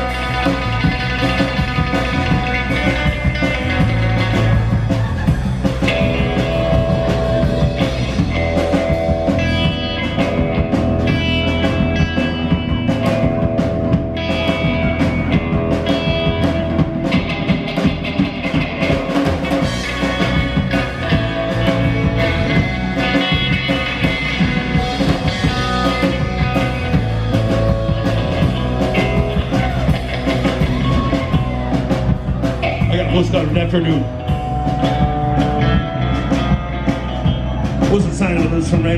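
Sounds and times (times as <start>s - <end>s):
bass guitar: 0.0s - 38.9s
drum kit: 0.0s - 38.9s
electric guitar lines: 0.0s - 38.9s.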